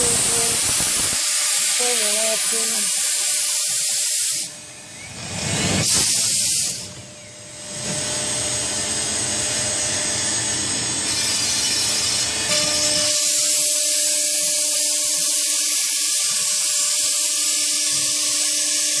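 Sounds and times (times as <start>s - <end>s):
air blow gun hiss: 0.0s - 7.0s, 10.1s - 19.0s.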